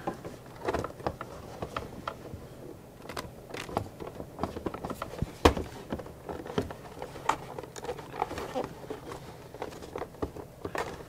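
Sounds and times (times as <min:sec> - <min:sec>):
plastic clicks and knocks: 0:00.0 - 0:02.2, 0:03.0 - 0:11.0.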